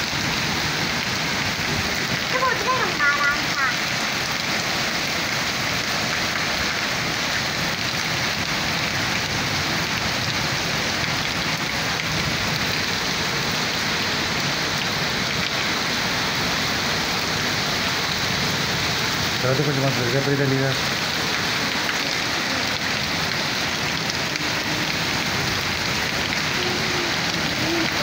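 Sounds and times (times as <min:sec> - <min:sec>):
rain falling on concrete: 0:00.0 - 0:28.0.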